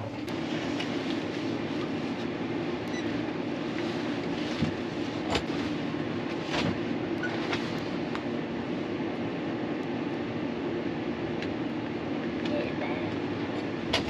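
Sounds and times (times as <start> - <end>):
steady mechanical drone: 0.0 - 14.0.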